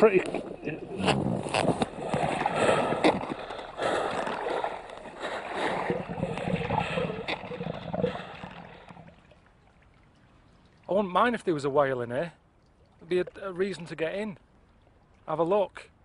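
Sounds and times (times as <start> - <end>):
water splashing and churning: 0.0 - 16.0.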